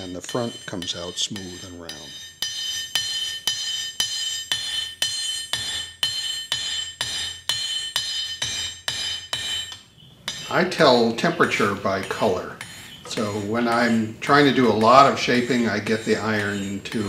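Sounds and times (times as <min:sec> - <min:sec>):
anvil ringing: 0:00.0 - 0:17.0
hammer striking hot iron: 0:00.0 - 0:17.0.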